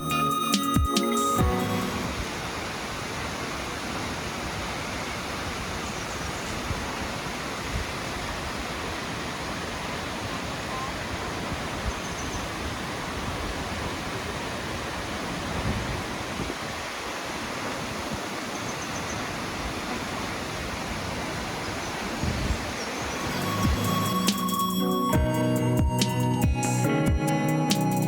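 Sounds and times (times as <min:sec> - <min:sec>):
waterfall roaring: 0:01.6 - 0:24.3.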